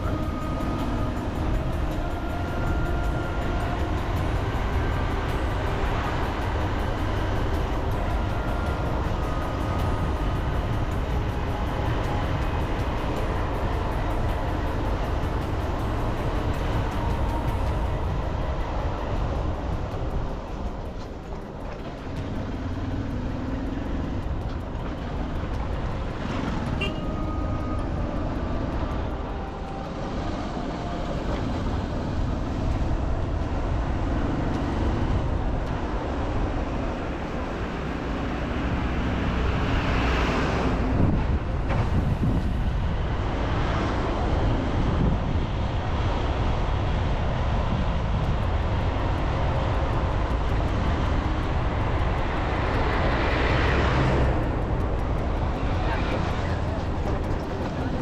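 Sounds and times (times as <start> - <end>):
road traffic rumble: 0.0 - 58.0
vehicle passing: 0.0 - 58.0.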